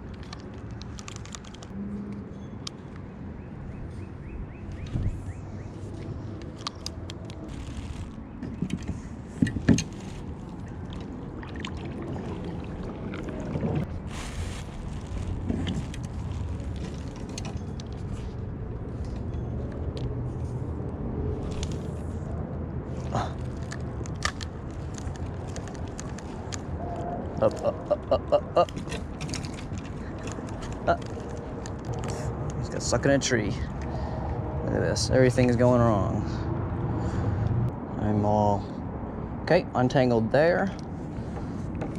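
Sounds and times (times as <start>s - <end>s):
steady low rumble: 3.3s - 41.9s.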